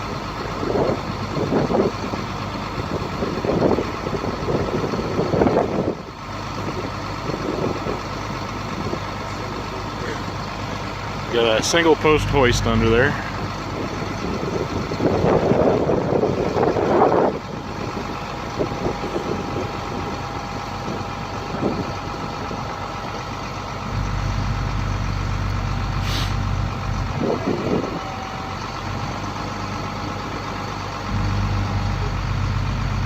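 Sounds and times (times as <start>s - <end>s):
diesel truck engine rumble: 0.0s - 33.0s
hydraulic hoist whine: 0.0s - 33.0s.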